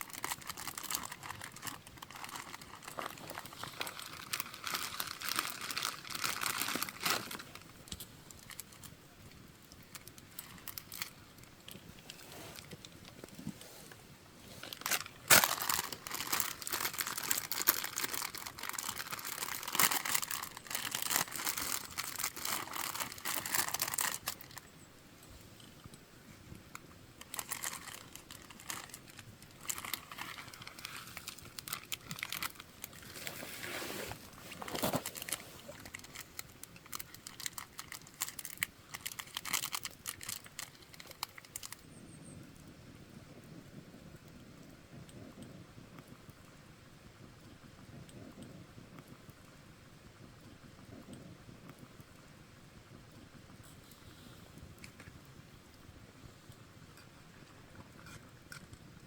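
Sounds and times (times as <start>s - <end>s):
campfire crackling and popping: 0.0s - 13.4s, 14.2s - 33.3s, 34.7s - 59.0s.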